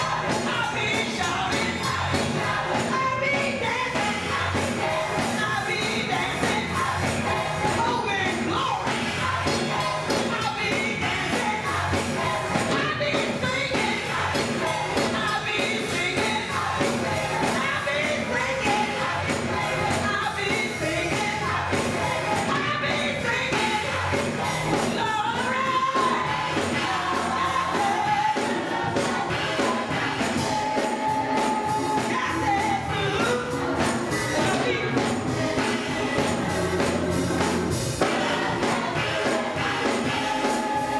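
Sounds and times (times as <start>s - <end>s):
gospel choir singing: 0.0s - 40.9s.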